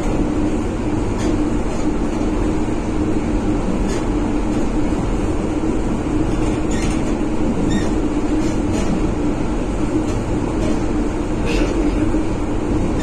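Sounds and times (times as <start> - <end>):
train cabin rumble and hum: 0.0 - 13.0.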